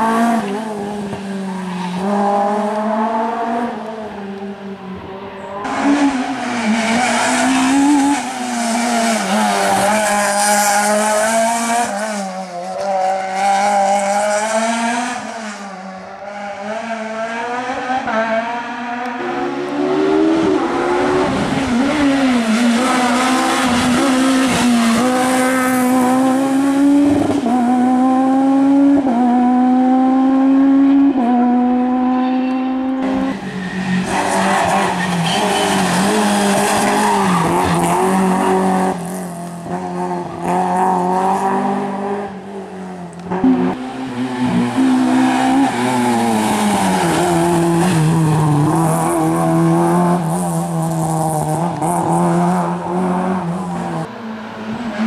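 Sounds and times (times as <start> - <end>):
rally car accelerating through gears: 0.0 - 55.0.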